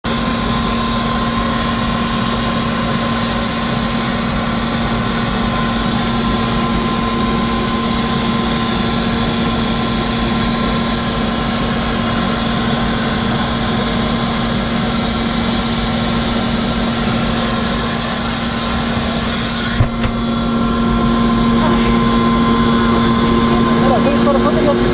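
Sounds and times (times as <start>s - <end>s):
helicopter engine and rotor droning: 0.0s - 24.9s.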